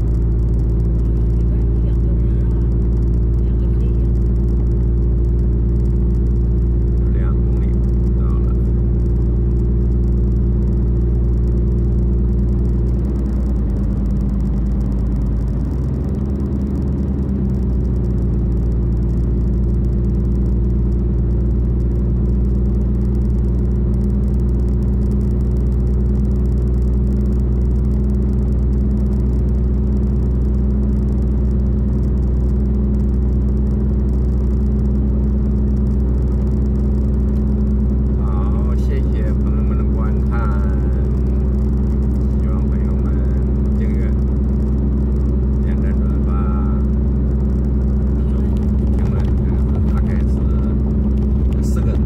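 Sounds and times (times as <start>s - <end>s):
car engine and tyre noise: 0.0s - 52.0s.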